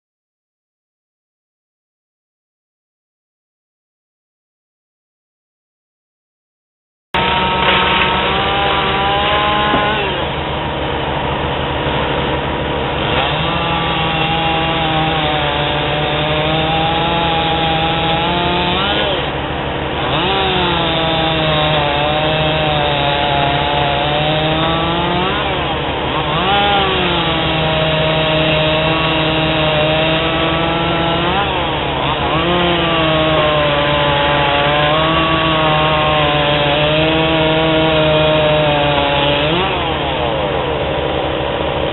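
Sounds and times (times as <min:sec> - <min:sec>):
chainsaw cutting firewood: 0:07.2 - 0:41.9.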